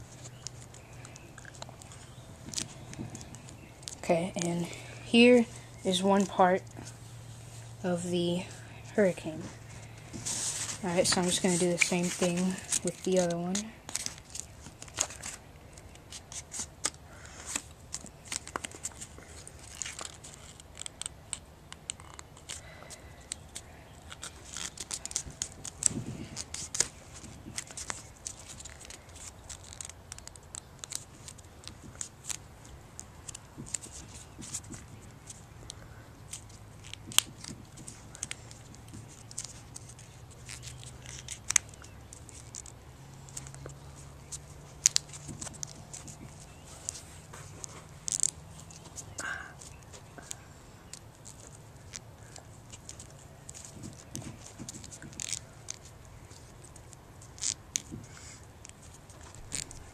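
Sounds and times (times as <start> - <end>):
card crinkling and clicking: 0.1 - 5.4, 9.4 - 59.9.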